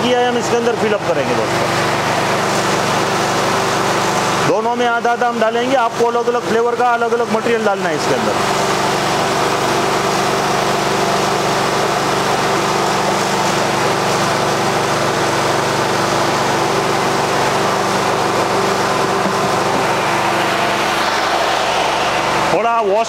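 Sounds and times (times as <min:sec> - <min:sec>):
generator engine droning: 0:00.0 - 0:23.0.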